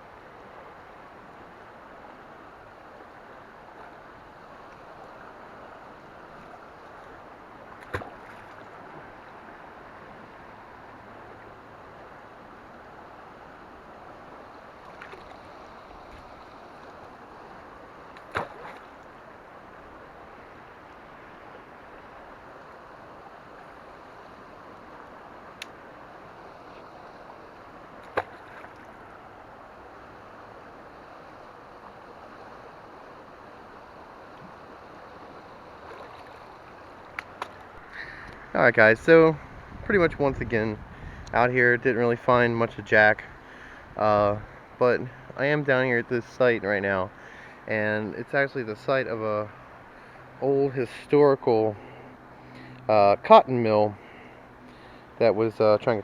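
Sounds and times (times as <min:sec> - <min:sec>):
river water rushing: 0:00.0 - 0:39.2, 0:42.8 - 0:50.6, 0:51.7 - 0:55.2.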